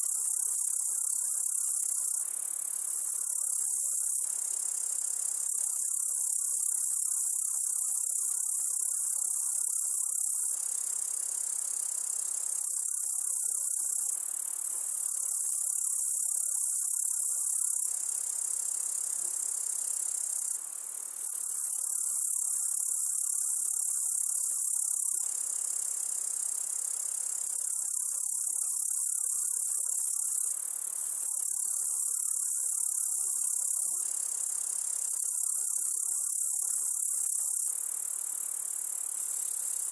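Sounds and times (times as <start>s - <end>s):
crickets and grasshoppers trilling: 0.0s - 39.9s.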